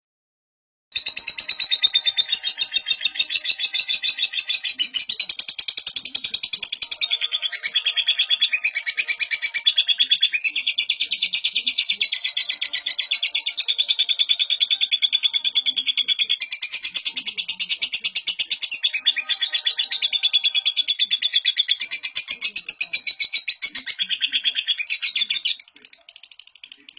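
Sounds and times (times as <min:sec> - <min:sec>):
bird chirping rapidly: 0:00.9 - 0:26.9.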